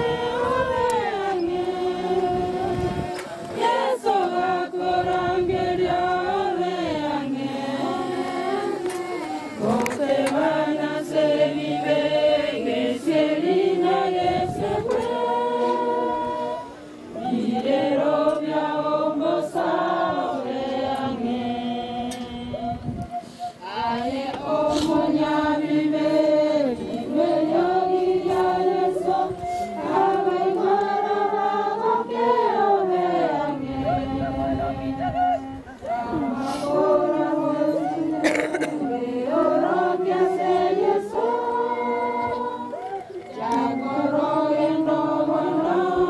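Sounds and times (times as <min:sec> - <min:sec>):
group of voices singing: 0:00.0 - 0:46.0.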